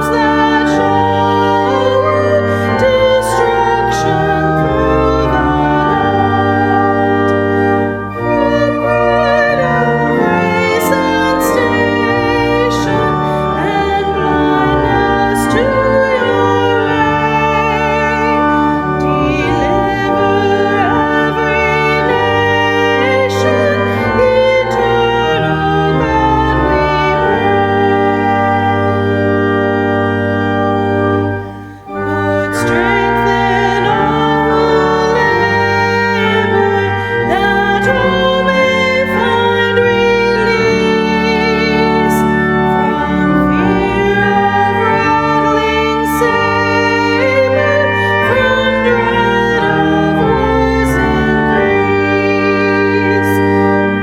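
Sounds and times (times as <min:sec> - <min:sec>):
organ chords: 0:00.0 - 0:54.0
person singing with vibrato: 0:00.0 - 0:54.0
wavering organ melody: 0:00.0 - 0:54.0.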